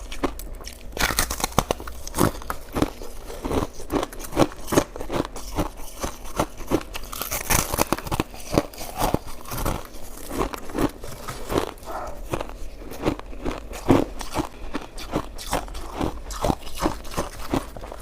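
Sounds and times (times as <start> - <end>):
chewing and crunching ice: 0.0 - 18.0.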